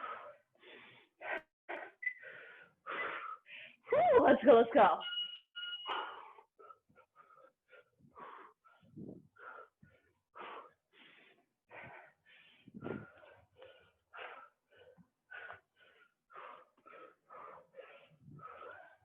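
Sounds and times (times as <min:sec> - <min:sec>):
person panting hard: 0:00.0 - 0:03.9, 0:05.9 - 0:19.0.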